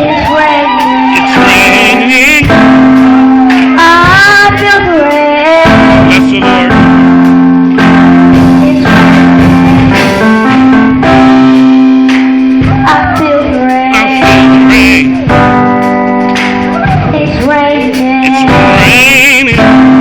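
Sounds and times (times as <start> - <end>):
live gospel worship music: 0.0 - 20.0.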